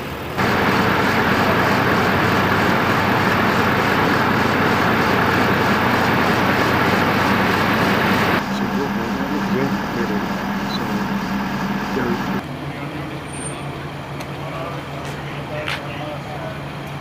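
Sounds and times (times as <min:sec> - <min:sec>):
loud engine noise: 0:00.0 - 0:17.0.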